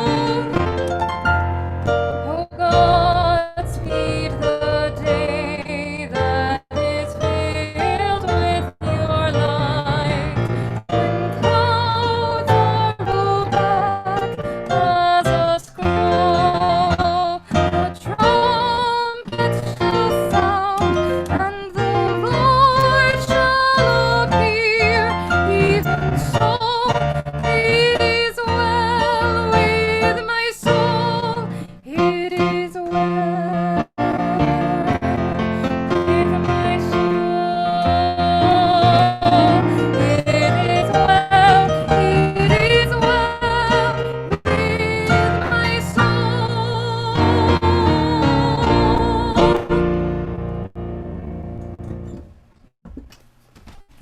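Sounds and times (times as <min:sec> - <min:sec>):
instrumental accompaniment: 0:00.0 - 0:52.7.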